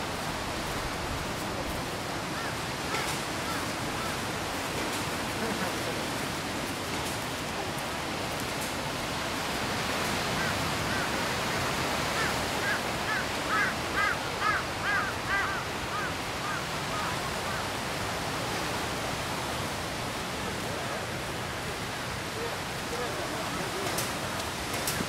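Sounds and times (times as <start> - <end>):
surf on a beach: 0.0 - 25.0.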